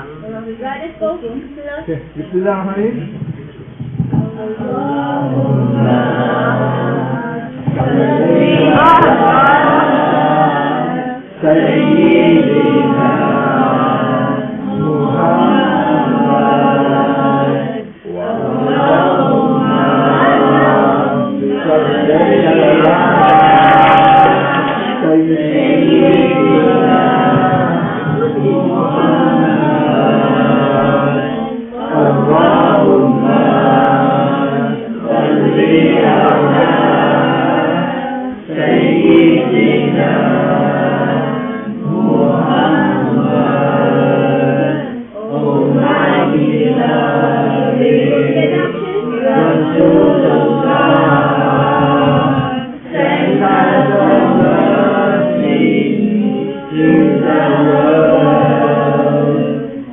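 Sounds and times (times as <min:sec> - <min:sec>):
children singing as a choir: 0:00.0 - 0:00.6, 0:03.2 - 0:59.9.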